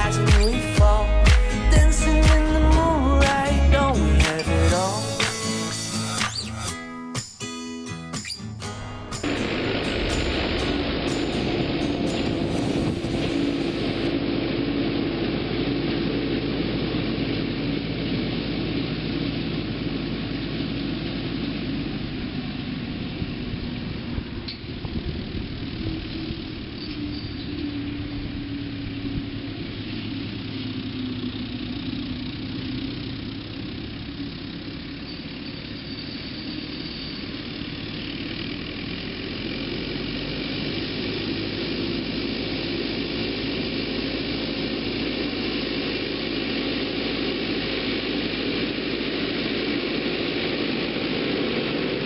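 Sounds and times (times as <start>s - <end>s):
tractor diesel engine running: 0.0s - 7.5s, 8.2s - 52.0s.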